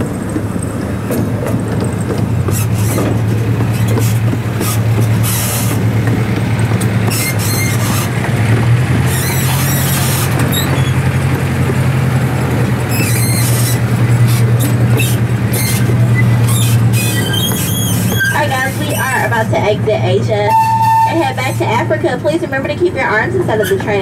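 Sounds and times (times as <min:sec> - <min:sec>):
metal wheels squealing on rails: 0:00.0 - 0:24.0
train engine running: 0:00.0 - 0:24.0.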